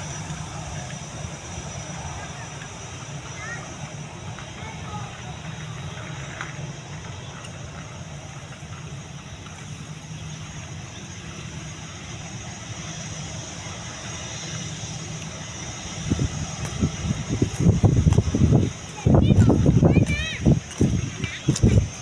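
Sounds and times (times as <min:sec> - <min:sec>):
jet engines idling drone: 0:00.0 - 0:22.0.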